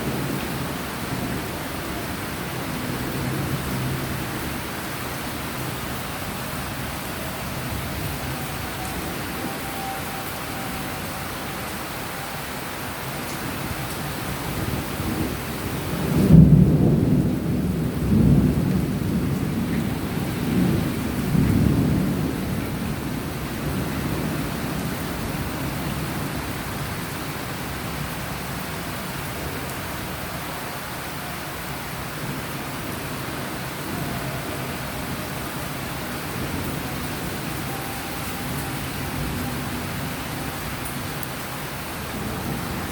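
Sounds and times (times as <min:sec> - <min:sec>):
thunder rumbling: 0:00.0 - 0:30.6, 0:31.6 - 0:42.9
rain falling: 0:00.0 - 0:42.9.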